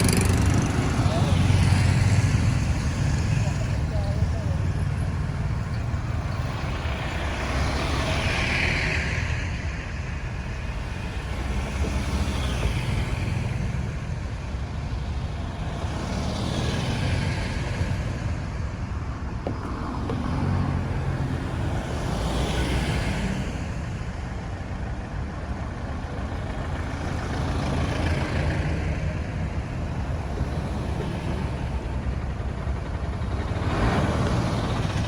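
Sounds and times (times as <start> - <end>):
low engine rumble of traffic: 0.0 - 35.0
vehicles passing by: 0.0 - 35.0.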